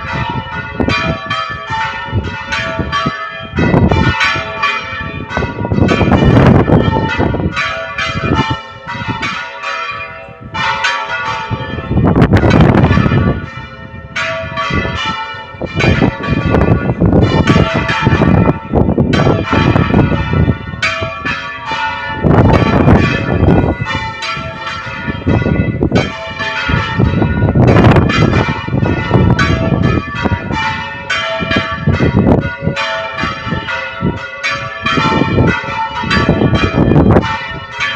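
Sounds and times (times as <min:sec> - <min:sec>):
church bells ringing: 0:00.0 - 0:37.9
heavy bell clangs: 0:00.0 - 0:37.9.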